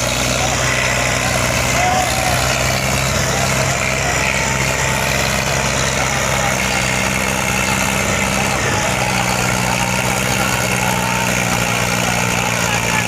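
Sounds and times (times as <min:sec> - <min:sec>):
diesel tractor engines running: 0:00.0 - 0:13.0.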